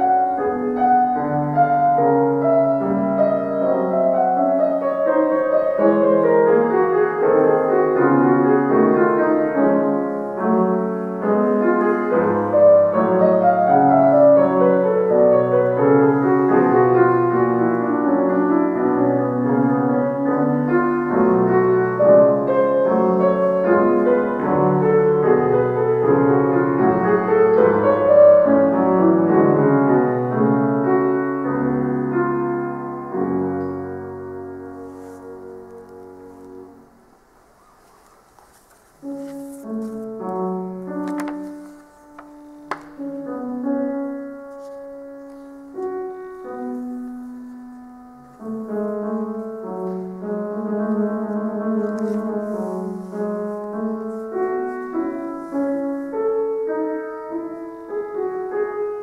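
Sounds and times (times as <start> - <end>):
solo piano classical piece: 0.0 - 59.0.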